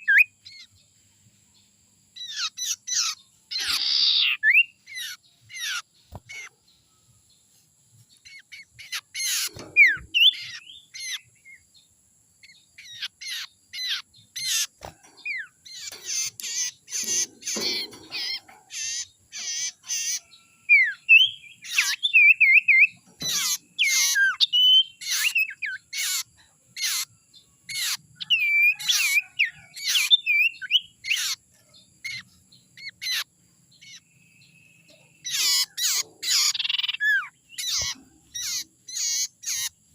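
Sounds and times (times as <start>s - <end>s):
songbird chirping and whistling: 0.0s - 0.9s, 2.1s - 39.8s.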